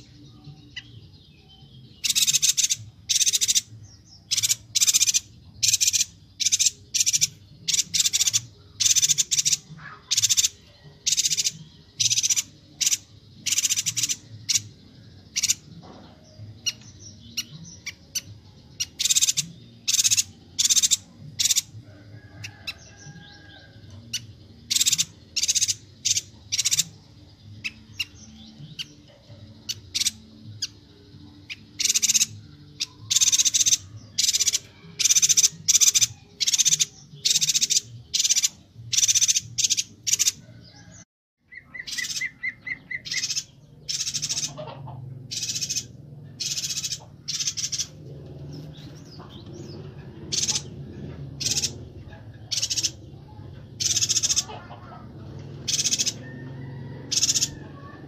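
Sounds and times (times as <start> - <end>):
bird high-pitched chirps: 0.0 - 21.7, 22.4 - 40.8, 41.4 - 48.0, 48.6 - 55.0.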